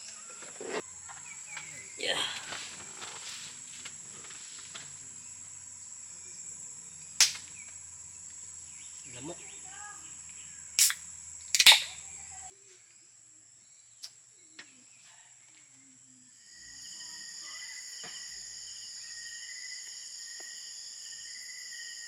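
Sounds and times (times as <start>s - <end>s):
night insect chorus: 0.0s - 22.0s.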